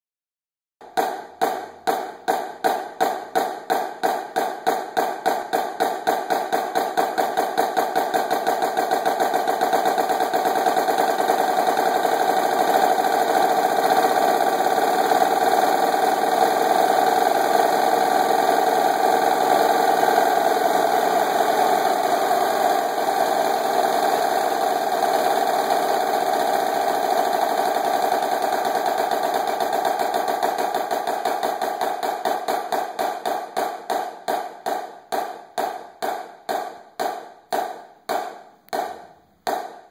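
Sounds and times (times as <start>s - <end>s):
marching snare drum: 1.0s - 36.2s.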